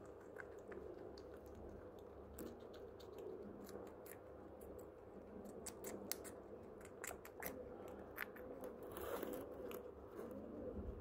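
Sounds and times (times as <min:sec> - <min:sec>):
guinea pig chewing: 0:00.0 - 0:10.7.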